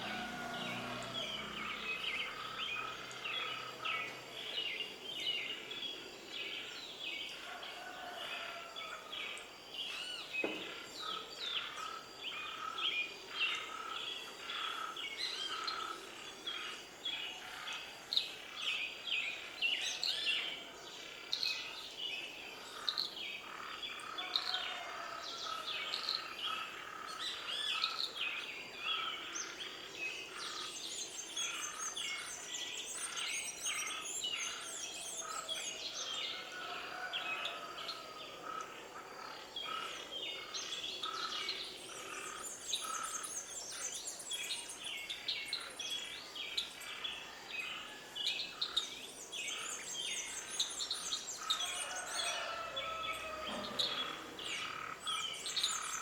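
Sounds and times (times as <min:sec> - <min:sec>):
birds chirping: 0:00.0 - 0:20.4, 0:21.3 - 0:56.0.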